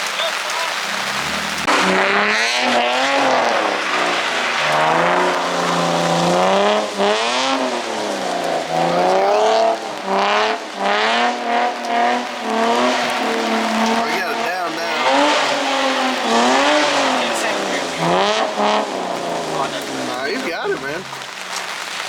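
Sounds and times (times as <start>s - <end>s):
car engine revving hard: 0.6s - 21.4s.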